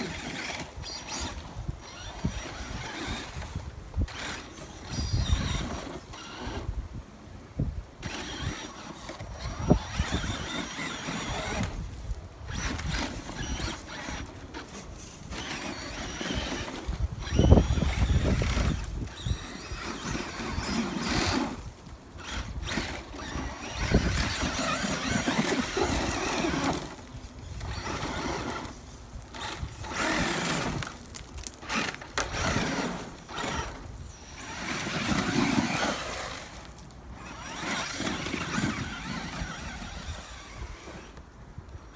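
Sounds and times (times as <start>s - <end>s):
electric motor whining: 0.0s - 6.8s, 8.0s - 41.3s
tyres churning loose dirt: 0.0s - 6.9s, 8.0s - 41.4s.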